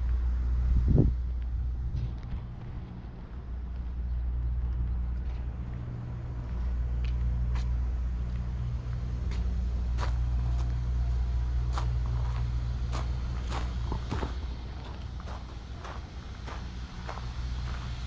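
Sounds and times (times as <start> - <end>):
engine idling hum: 0.0 - 18.0
footsteps on pavement: 1.3 - 10.8, 11.6 - 18.0.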